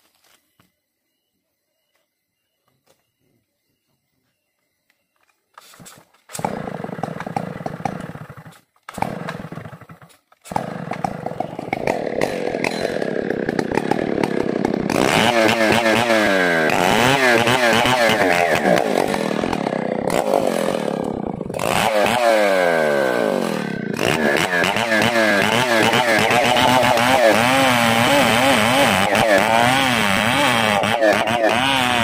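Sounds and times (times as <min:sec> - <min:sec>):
chainsaw cutting log: 0:05.6 - 0:32.0.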